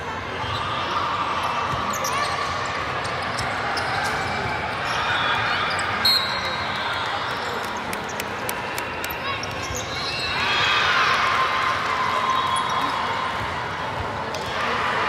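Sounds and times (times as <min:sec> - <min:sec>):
many voices: 0:00.0 - 0:15.0.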